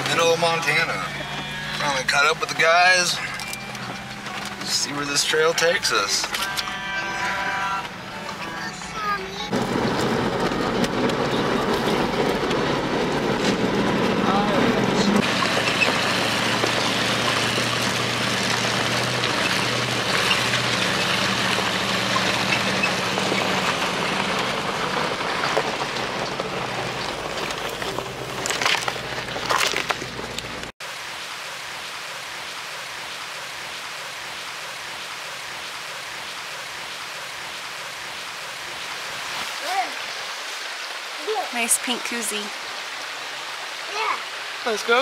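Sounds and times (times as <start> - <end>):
river running over stones: 0.0 - 45.0
vehicle engine and tyre noise: 0.0 - 45.0.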